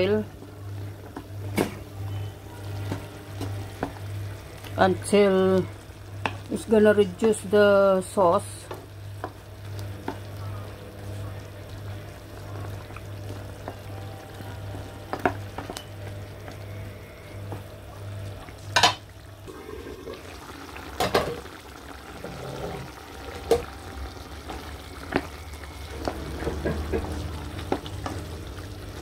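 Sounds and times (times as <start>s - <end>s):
chicken wings sizzling in sauce: 0.0s - 29.0s.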